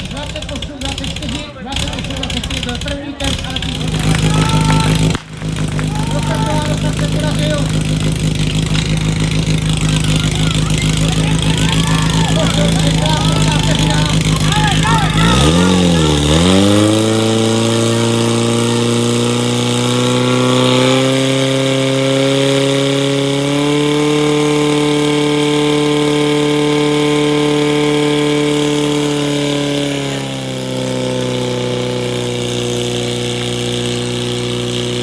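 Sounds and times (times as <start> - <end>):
pump engine running at high revs: 0.0 - 35.0.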